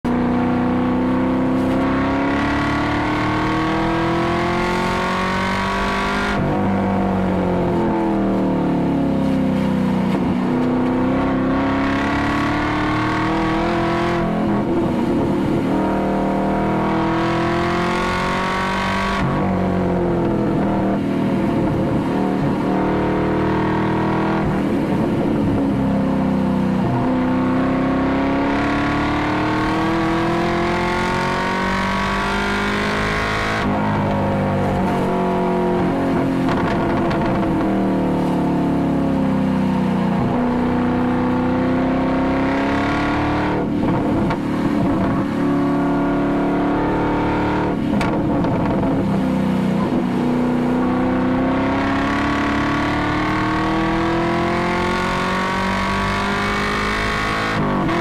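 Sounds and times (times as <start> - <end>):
car engine revving inside cabin: 0.1 - 58.0.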